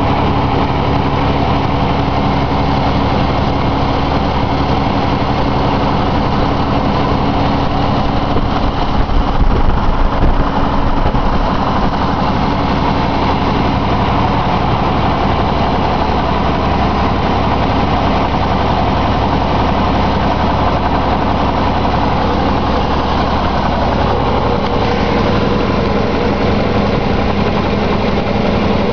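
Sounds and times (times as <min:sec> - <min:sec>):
car driving noise: 0:00.0 - 0:28.9
car engine running: 0:00.0 - 0:28.9.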